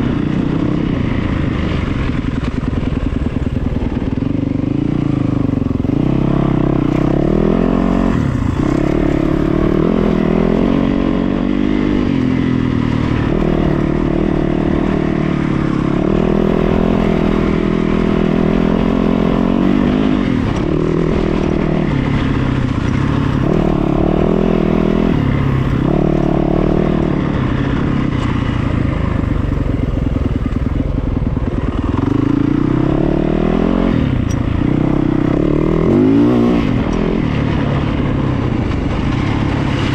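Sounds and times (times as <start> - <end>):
engine revving: 0.0 - 30.5, 31.1 - 39.9.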